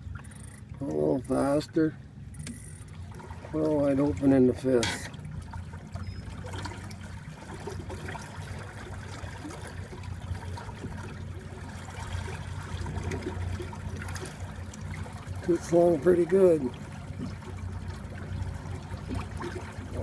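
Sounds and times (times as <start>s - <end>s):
water splashing along boat hull: 0.0s - 20.0s.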